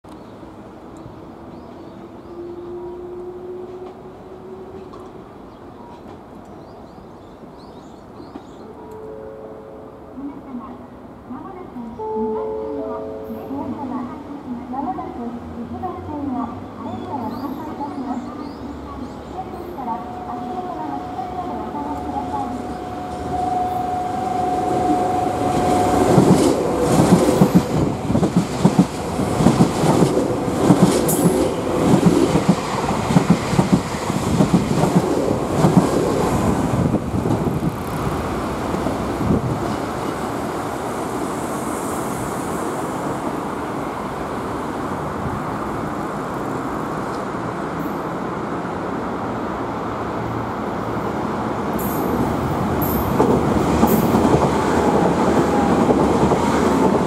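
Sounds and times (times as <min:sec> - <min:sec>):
approaching train: 0:00.1 - 0:57.0.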